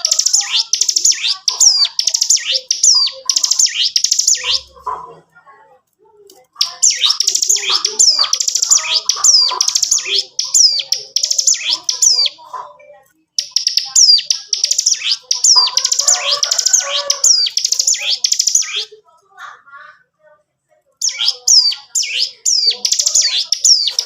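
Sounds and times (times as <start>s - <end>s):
bird singing rapid chirps: 0.0s - 4.9s, 6.6s - 12.5s, 13.4s - 19.0s, 21.0s - 24.0s.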